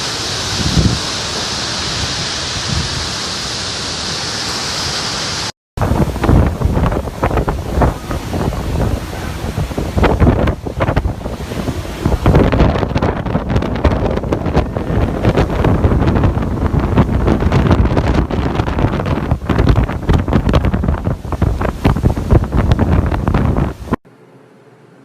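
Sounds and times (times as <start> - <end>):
strong wind buffeting microphone: 0.0 - 3.7, 5.8 - 24.0.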